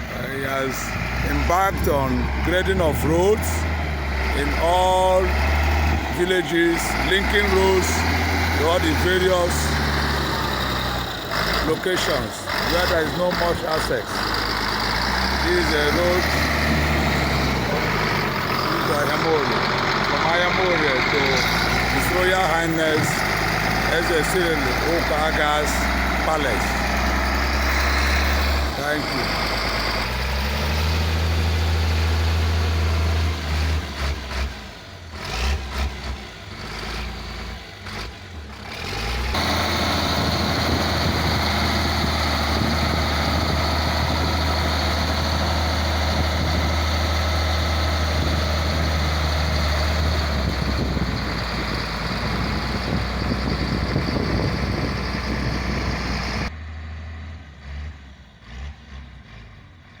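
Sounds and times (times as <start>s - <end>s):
heavy diesel engine droning: 0.0s - 60.0s.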